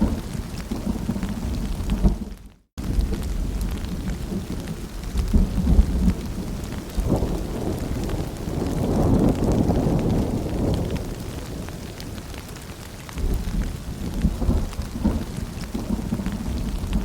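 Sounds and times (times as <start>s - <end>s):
patter of rain drops: 0.0s - 17.0s
rolling thunder: 0.0s - 17.0s.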